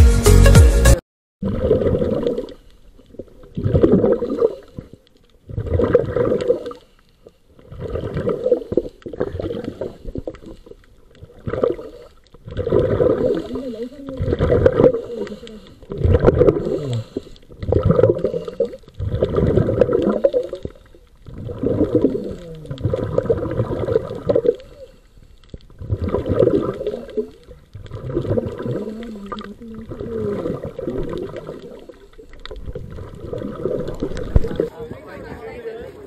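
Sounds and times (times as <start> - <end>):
regulator exhale bubbling underwater: 1.4 - 6.8, 7.6 - 25.0, 25.6 - 34.8.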